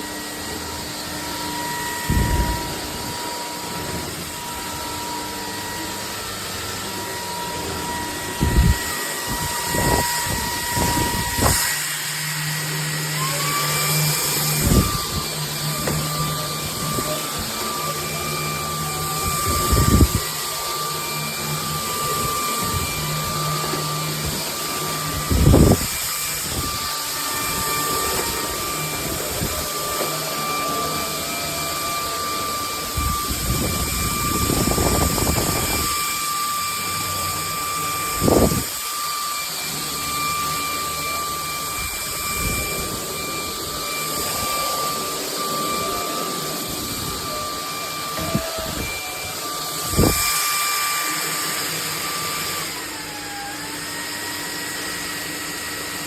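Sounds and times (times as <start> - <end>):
stick vacuum motor whining: 0.0 - 56.0.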